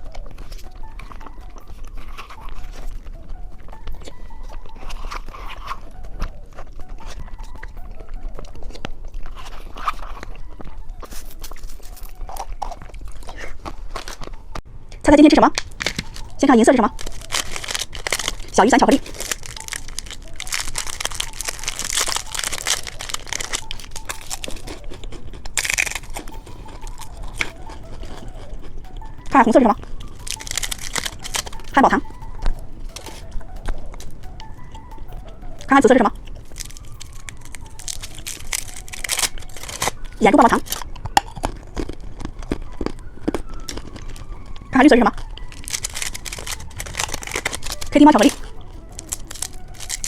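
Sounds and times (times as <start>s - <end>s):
candy wrapper crinkling: 0.0s - 50.0s
crunchy biting and chewing: 0.0s - 50.0s.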